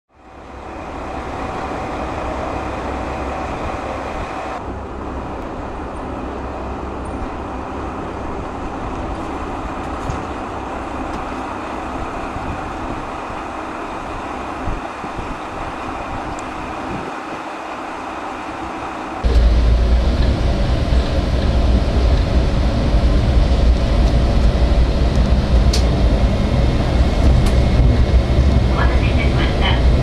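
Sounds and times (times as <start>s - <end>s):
diesel engine idling: 0.2s - 30.0s.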